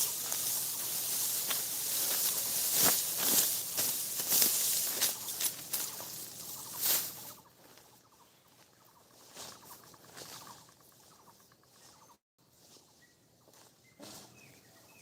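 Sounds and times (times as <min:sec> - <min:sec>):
dry stalks crackling and rustling: 0:00.0 - 0:14.5.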